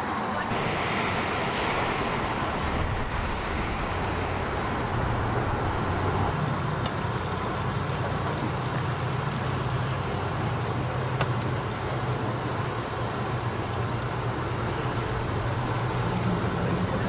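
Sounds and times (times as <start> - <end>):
vehicle engine idling: 0.2 - 17.0.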